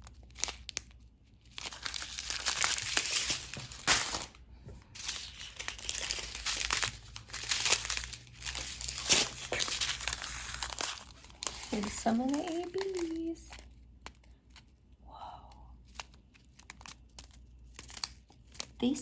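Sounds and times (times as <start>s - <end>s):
plastic bags crinkling: 0.0s - 14.8s, 15.8s - 19.0s.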